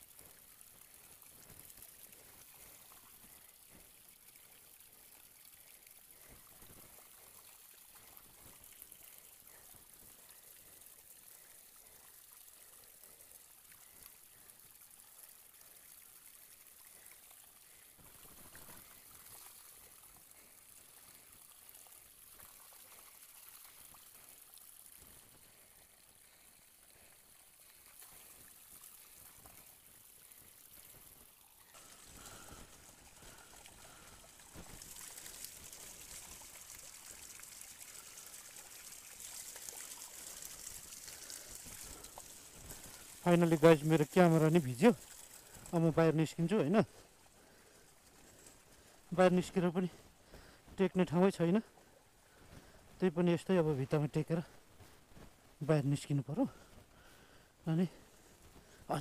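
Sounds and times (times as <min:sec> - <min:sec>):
faint running water trickle: 0:00.0 - 0:59.0.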